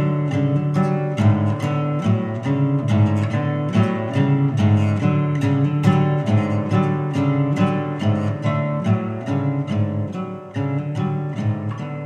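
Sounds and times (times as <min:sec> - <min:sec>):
classical guitar strumming chords: 0:00.0 - 0:12.0.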